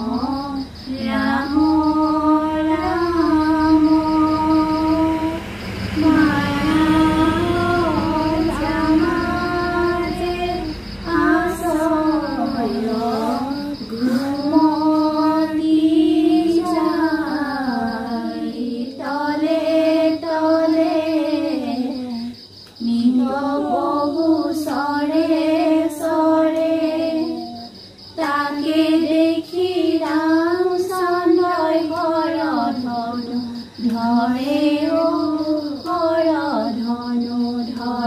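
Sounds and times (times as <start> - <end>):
women and child singing: 0.0 - 38.0.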